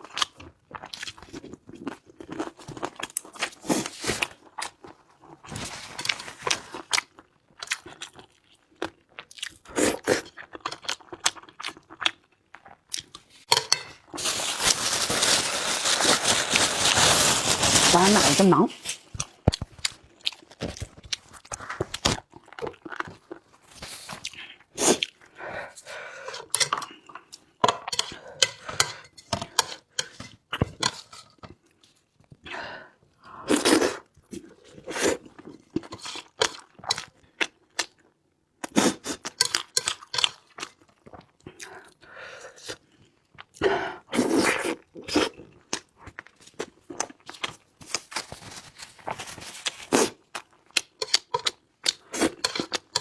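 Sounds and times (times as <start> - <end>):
person chewing and crunching food: 0.0 - 31.9, 33.3 - 53.0.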